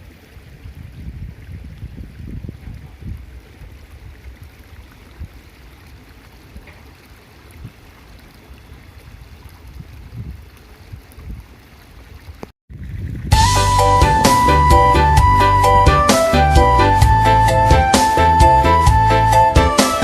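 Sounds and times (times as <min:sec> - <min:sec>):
wind buffeting microphone: 0:00.1 - 0:19.1.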